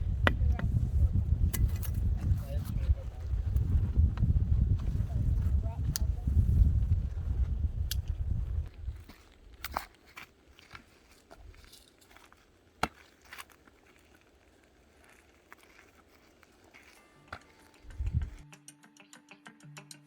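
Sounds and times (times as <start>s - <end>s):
faint crackles and clicks: 1.4s - 18.4s.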